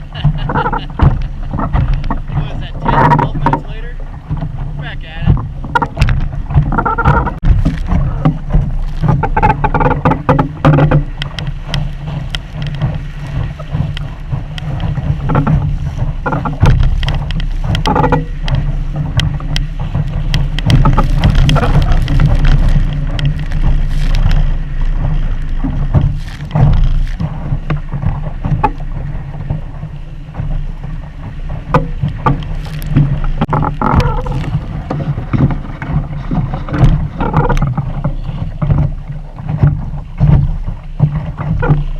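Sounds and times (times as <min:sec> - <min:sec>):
water splashing against hull: 0:00.0 - 0:41.9
wind rumbling on microphone: 0:00.0 - 0:41.9
irregular knocks: 0:00.1 - 0:41.9.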